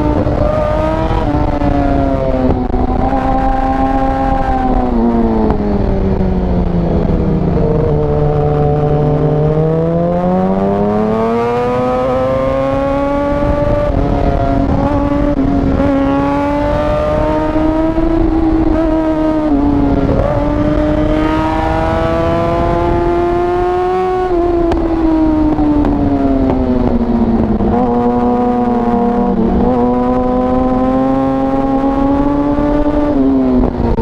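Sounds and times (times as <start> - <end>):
motorcycle engine revving: 0.0 - 34.0
wind rushing: 0.0 - 34.0.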